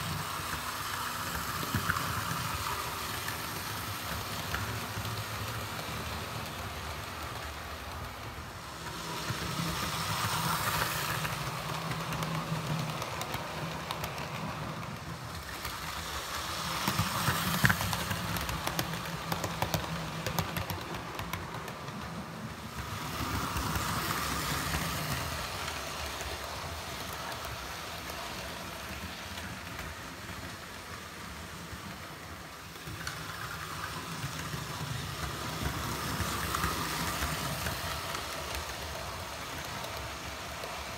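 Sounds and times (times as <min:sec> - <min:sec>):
wheels rattling over track: 0:00.0 - 0:40.9.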